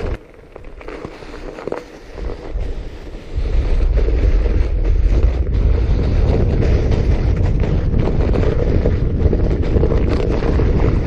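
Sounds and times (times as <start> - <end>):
bike rolling on snow: 0.0 - 11.0
wind buffeting microphone: 2.0 - 11.0.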